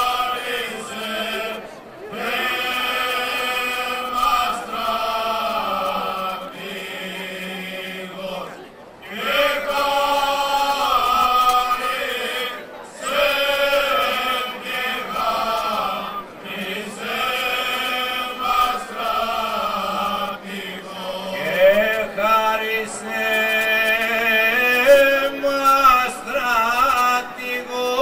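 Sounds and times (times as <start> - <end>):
male choir singing: 0.0 - 28.0.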